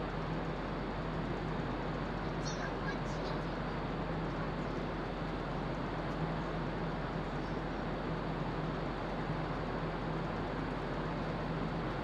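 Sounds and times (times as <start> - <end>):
ferry engine rumble and rush: 0.0 - 12.0.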